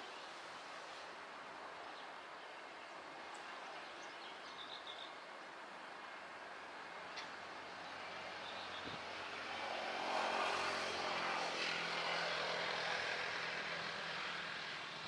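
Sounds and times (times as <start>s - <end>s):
distant airliner engines passing: 0.0s - 15.0s.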